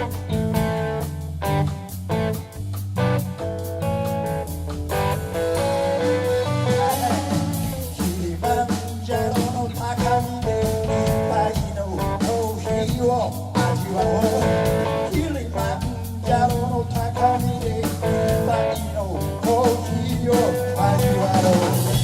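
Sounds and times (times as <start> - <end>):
bass guitar: 0.0 - 22.0
drums: 0.0 - 22.0
electric guitar lead: 0.0 - 22.0.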